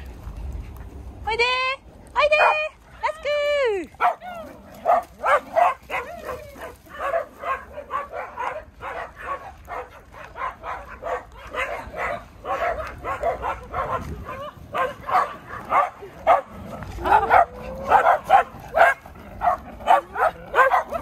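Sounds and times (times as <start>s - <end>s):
small dogs barking: 2.3s - 2.7s, 3.9s - 21.0s.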